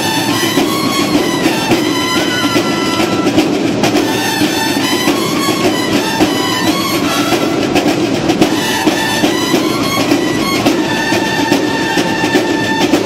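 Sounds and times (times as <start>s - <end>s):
loud music with drum beat: 0.0s - 13.0s.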